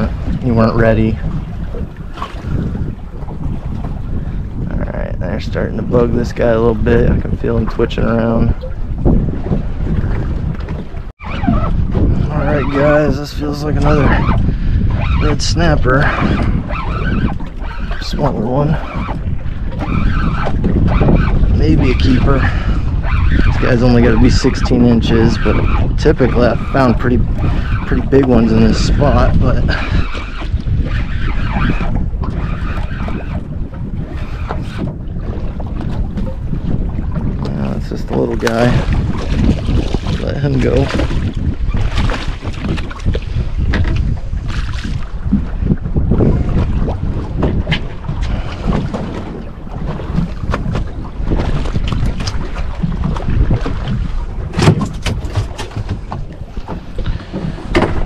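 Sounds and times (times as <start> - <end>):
sea water washing around boat: 0.0 - 58.0
wind rumbling on microphone: 0.0 - 58.0.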